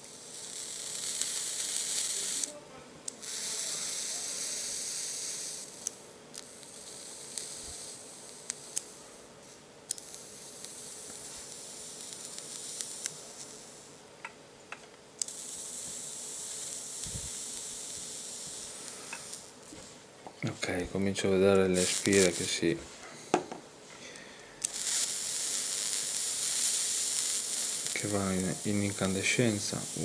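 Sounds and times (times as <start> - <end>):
small crackles: 0.0 - 23.3, 23.9 - 30.0
coil hissing and sizzling: 0.0 - 30.0.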